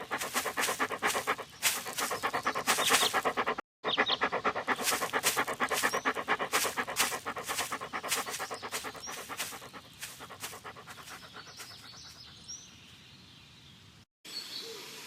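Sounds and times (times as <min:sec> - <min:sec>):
dog panting: 0:00.0 - 0:12.5.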